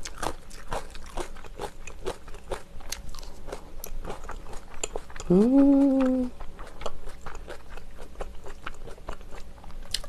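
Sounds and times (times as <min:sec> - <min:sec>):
crunchy chewing with mouth clicks: 0:00.0 - 0:10.0.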